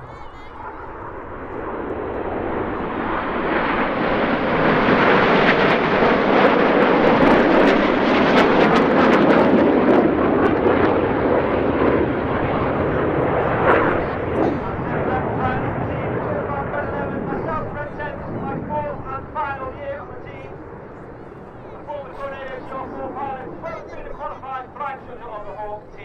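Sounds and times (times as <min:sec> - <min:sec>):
jets flying past: 0:00.0 - 0:25.8.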